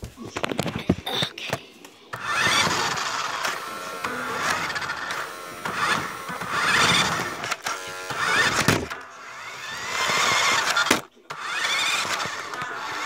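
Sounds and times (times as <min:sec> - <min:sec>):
toy car electric motor whirring: 0:02.1 - 0:13.0.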